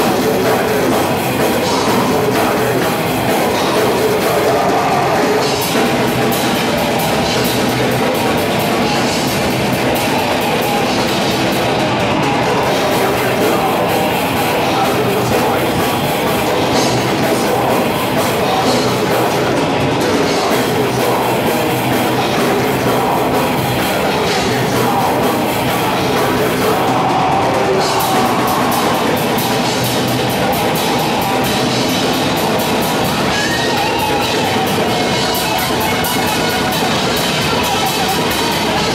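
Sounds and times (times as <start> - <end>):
drum kit with cymbals: 0.0 - 38.9
heavy rock band playing: 0.0 - 38.9
vocalist on microphone: 0.0 - 38.9.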